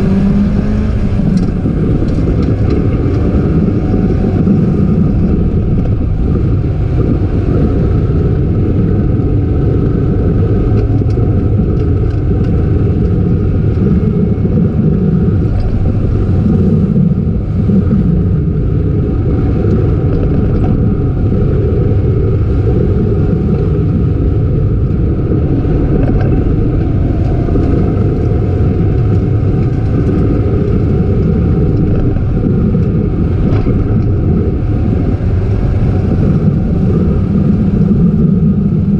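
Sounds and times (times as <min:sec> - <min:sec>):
car engine running hard: 0:00.0 - 0:38.9
road and wind noise: 0:00.0 - 0:38.9.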